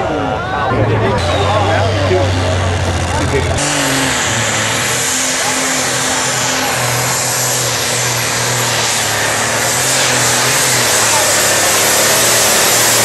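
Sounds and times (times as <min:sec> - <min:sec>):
tractor engine roaring: 0:00.0 - 0:13.0.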